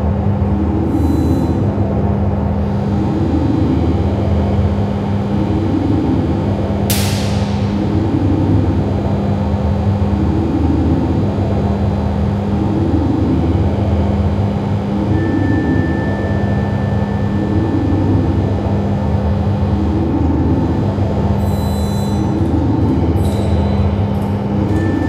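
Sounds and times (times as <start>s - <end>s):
looping low droning noise: 0.0s - 25.0s.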